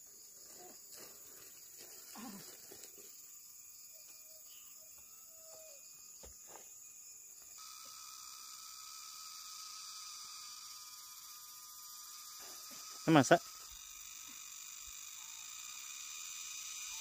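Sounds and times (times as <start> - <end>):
high-pitched insects calling: 0.0 - 17.0
low steady insect tone: 0.0 - 17.0.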